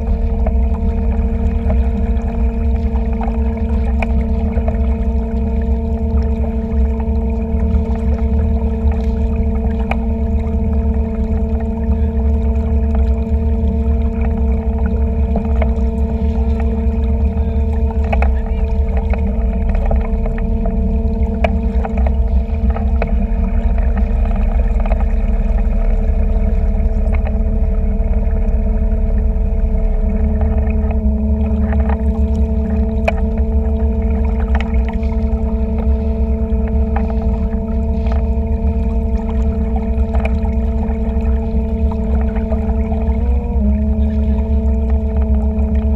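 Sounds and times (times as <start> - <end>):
boat motor droning: 0.0 - 45.9.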